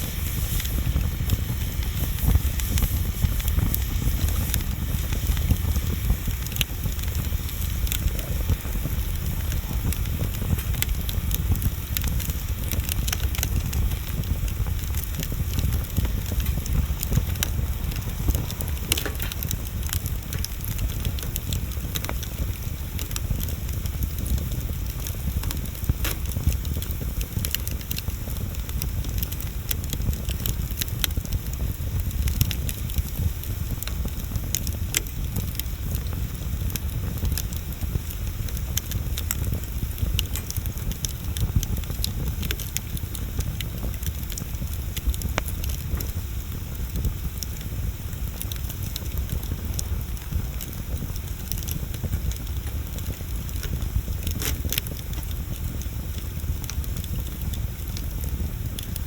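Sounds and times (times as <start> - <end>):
burning wood crackling: 0.0 - 59.0
low rumble of fire: 0.0 - 59.0.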